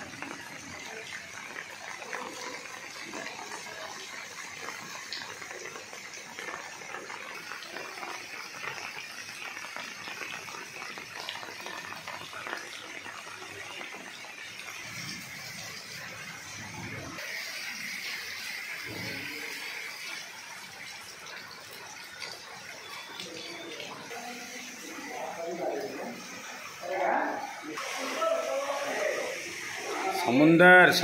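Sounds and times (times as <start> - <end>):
rain falling on water: 0.0 - 30.5.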